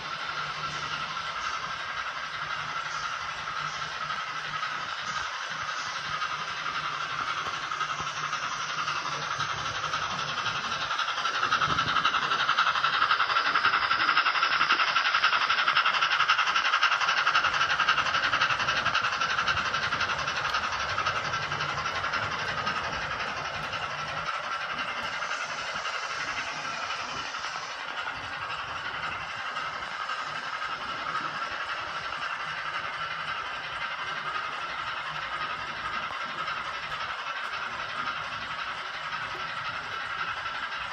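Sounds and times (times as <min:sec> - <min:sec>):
steam locomotive chuffs from speaker: 0:00.0 - 0:40.9.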